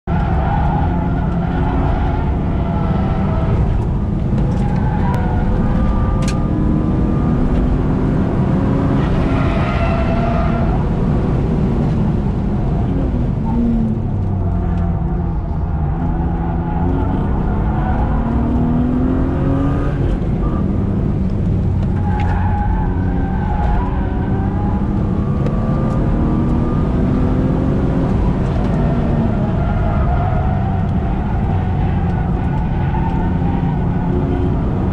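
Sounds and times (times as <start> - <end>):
car engine accelerating: 0.0 - 34.9
road noise rumble: 0.0 - 34.9.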